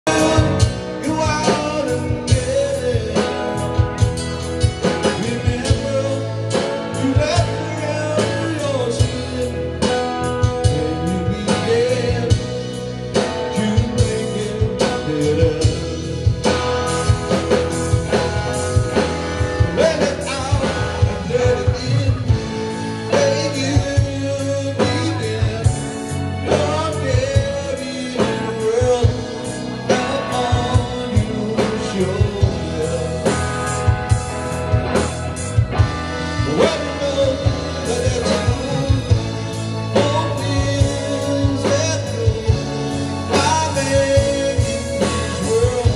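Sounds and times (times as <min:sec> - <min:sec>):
bass guitar: 0:00.0 - 0:45.9
drum kit: 0:00.0 - 0:45.9
electric guitar: 0:00.0 - 0:45.9
man singing: 0:00.0 - 0:45.9.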